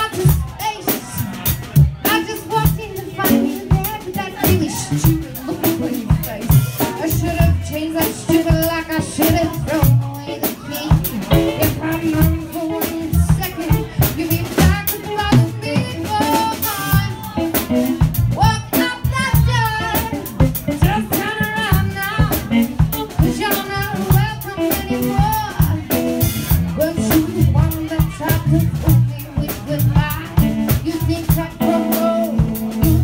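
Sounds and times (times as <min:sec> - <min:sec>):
woman singing into microphone: 0:00.0 - 0:01.3, 0:02.0 - 0:33.0
drum kit with cymbals: 0:00.0 - 0:33.0.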